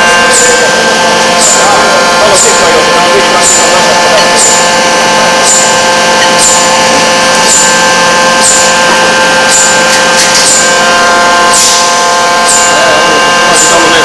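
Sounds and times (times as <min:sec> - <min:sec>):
loud steady machine hum: 0:00.0 - 0:14.0.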